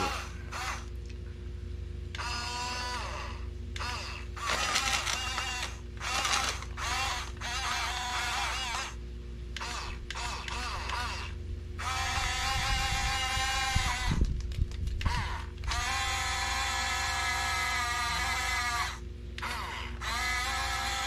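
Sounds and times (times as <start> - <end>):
toy bulldozer motors whining: 0.0 - 0.9, 2.1 - 9.0, 9.6 - 14.4, 15.0 - 21.0.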